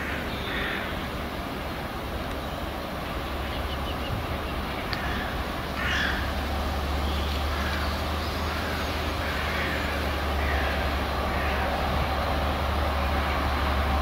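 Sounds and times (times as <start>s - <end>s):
diesel locomotive engine drone: 0.0s - 14.0s
rumble of wagons: 0.0s - 14.0s.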